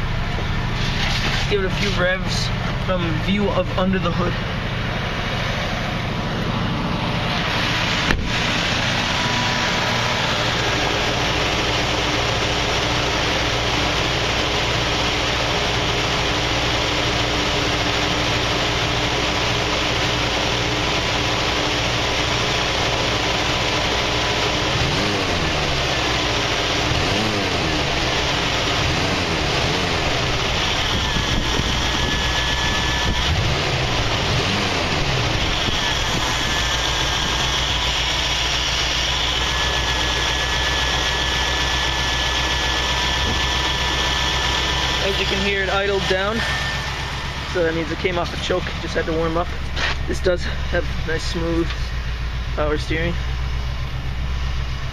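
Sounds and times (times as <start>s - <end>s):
engine revving: 0.0s - 54.2s
engine fast idle: 0.0s - 54.9s.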